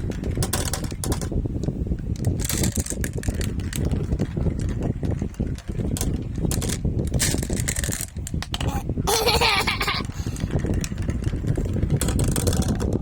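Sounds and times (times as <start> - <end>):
marbles clicking and clacking: 0.0 - 8.7, 10.0 - 13.0
marbles rolling down a track: 0.0 - 8.7, 10.1 - 13.0.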